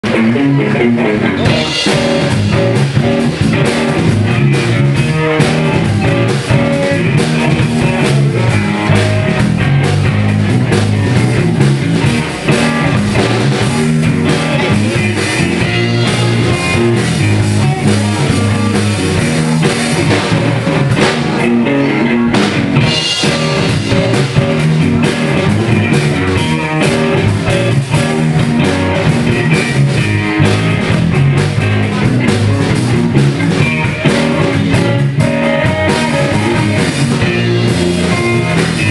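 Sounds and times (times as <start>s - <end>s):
amplified electric guitar: 0.0s - 38.9s
drum kit beat: 0.0s - 38.9s.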